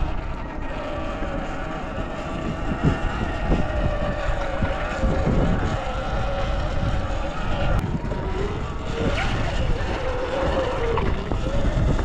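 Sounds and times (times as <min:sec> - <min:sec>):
electric motor whine: 0:00.0 - 0:12.0
wind buffeting microphone: 0:00.0 - 0:12.0.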